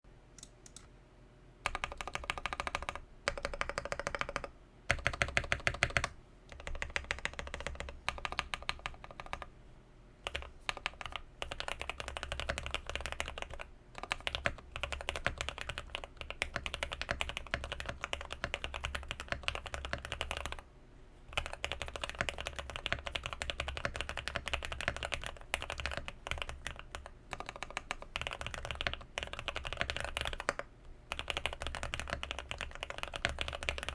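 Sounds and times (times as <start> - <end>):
mechanical keyboard typing: 0.4 - 0.9, 1.7 - 9.5, 10.2 - 20.6, 21.3 - 33.9.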